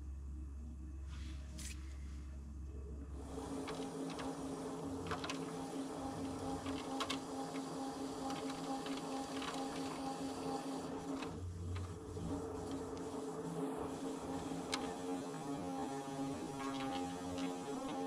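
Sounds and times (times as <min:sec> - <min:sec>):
pottery wheel motor whine: 0:03.2 - 0:18.0.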